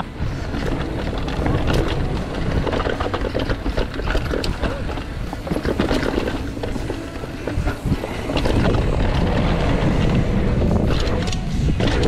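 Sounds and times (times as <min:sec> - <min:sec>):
bike rattles and clicks: 0:00.0 - 0:12.0
tyres rolling over dirt: 0:00.0 - 0:12.0
wind buffeting microphone: 0:00.0 - 0:12.0.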